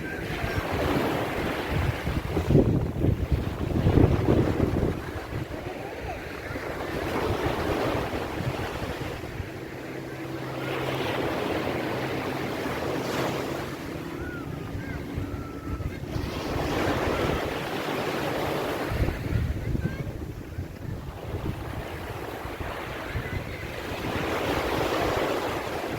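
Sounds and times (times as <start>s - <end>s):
ocean waves washing onto beach: 0.0s - 25.9s
wind buffeting microphone: 0.0s - 25.9s.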